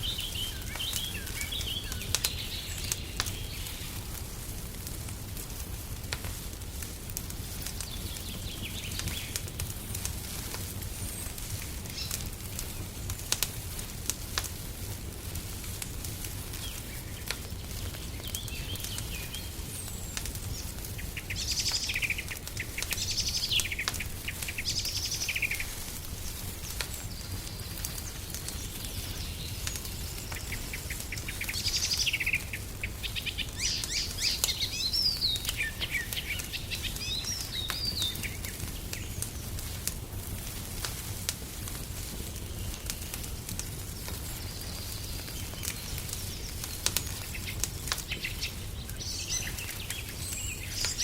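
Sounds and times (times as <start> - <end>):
small birds chirping: 0.0 - 4.4, 7.4 - 13.6, 15.2 - 39.9, 42.0 - 51.0
wood fire crackling: 0.0 - 51.0.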